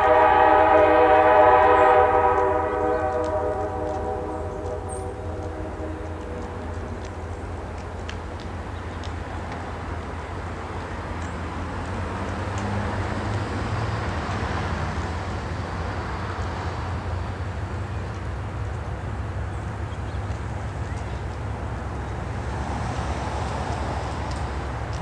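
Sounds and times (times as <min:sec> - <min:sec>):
freight train rumbling: 0:00.0 - 0:25.0.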